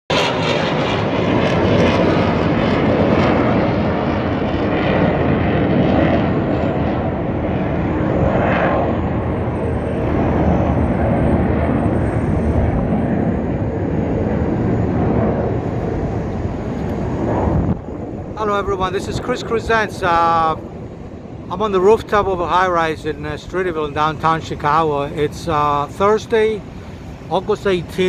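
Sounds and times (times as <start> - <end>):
jet flying overhead: 0.1 - 28.0.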